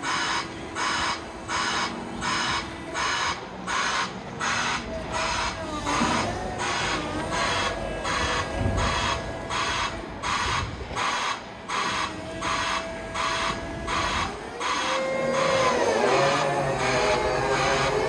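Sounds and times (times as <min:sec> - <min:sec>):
thin steady whine: 0:00.0 - 0:18.0.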